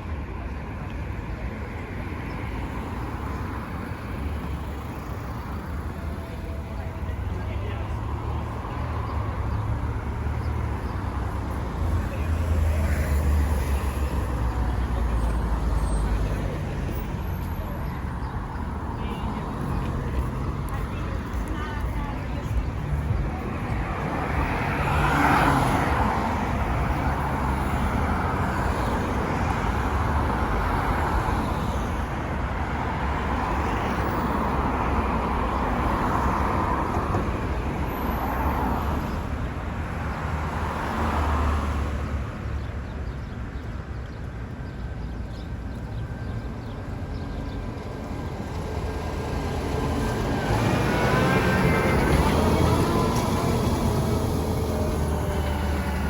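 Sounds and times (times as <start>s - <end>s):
cars passing: 0.0s - 56.0s
street noise: 0.0s - 56.0s.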